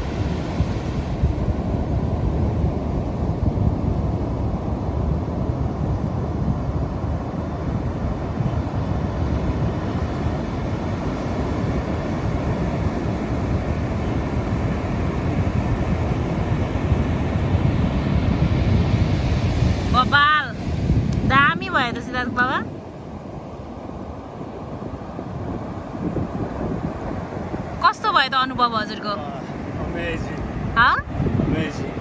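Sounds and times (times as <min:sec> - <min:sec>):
ocean surf on a beach: 0:00.0 - 0:32.0
wind buffeting microphone: 0:00.0 - 0:32.0.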